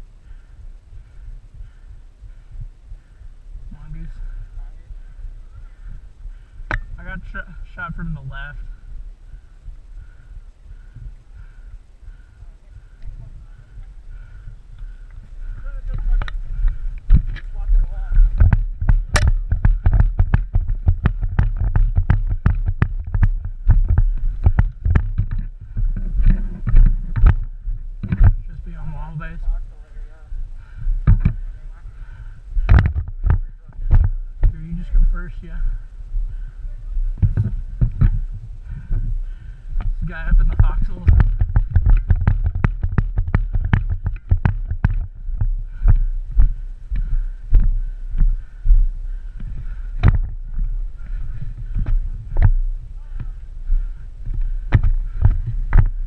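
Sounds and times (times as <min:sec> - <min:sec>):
quick footsteps on ground: 0:00.0 - 0:56.0
wind rumbling on microphone: 0:00.0 - 0:56.0.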